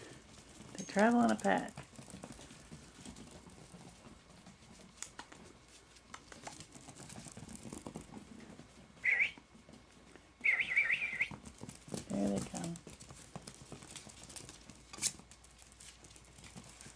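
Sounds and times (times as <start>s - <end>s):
puppy paws clicking on hard floor: 0.0s - 16.9s.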